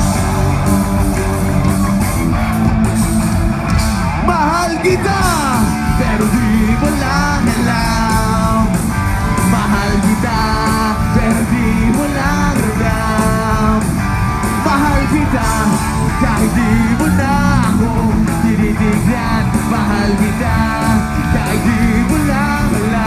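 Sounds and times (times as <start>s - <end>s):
electric guitars: 0.0s - 23.0s
steady drum beat: 0.0s - 23.0s.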